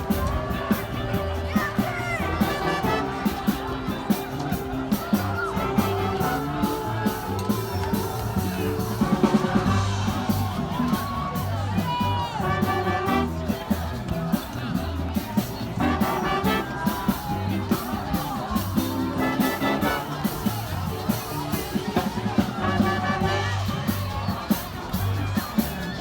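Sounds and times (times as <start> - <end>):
music with beat and bass: 0.0 - 26.0.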